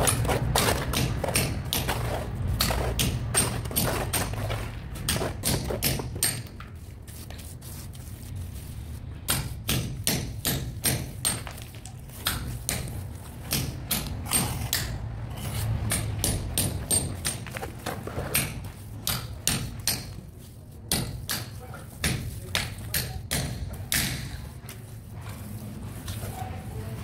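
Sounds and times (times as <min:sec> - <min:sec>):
trowel knocking and scraping: 0:00.0 - 0:08.3, 0:09.2 - 0:27.0.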